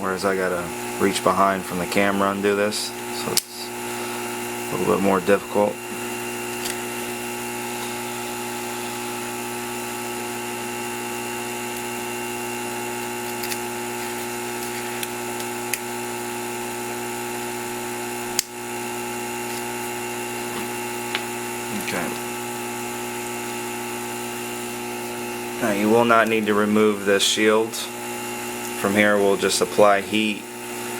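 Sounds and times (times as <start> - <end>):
small electric motor humming: 0.0 - 30.9.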